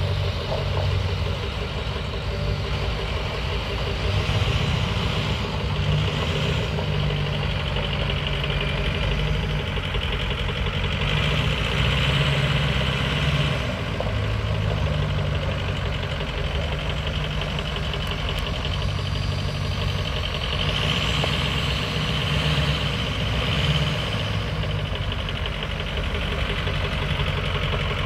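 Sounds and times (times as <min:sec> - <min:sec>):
pickup engine idling: 0:00.0 - 0:28.0.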